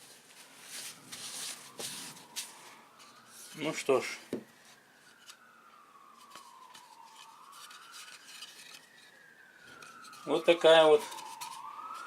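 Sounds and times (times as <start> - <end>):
distant siren wailing: 0.4 - 12.0.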